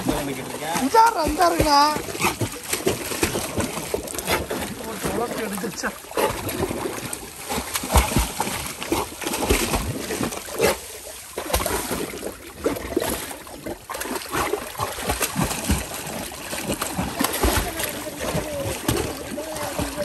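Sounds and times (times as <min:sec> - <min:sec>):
dog splashing in water: 0:00.0 - 0:20.0.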